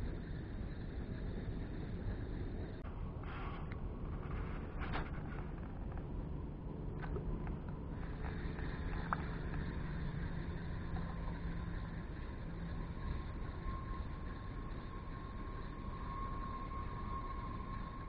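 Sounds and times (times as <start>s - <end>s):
low rumble: 0.0s - 15.4s
faint steady whine: 0.0s - 18.0s.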